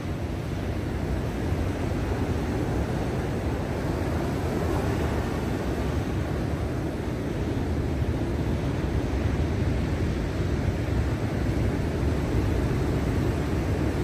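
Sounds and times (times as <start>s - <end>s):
stormy surf rumbling: 0.0s - 14.0s.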